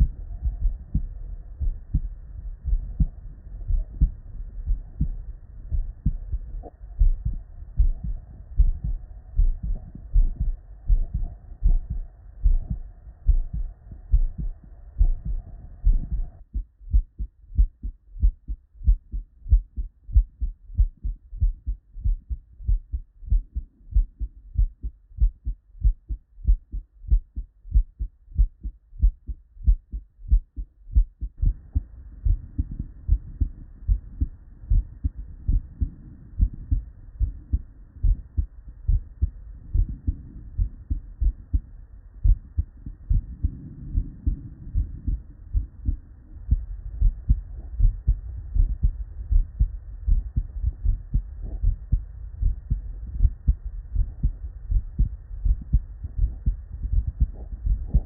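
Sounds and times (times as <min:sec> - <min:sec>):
heartbeat through stethoscope: 0:00.0 - 0:58.0.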